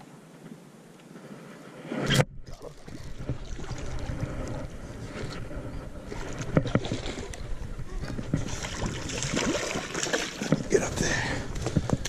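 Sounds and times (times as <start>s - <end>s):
wind rumbling on microphone: 1.2s - 12.0s
water splashing and sloshing: 1.8s - 12.0s.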